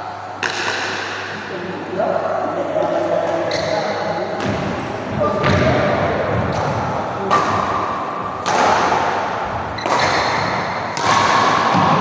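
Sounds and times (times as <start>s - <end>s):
rackets hitting shuttlecock: 0.4s - 1.4s, 3.3s - 12.0s.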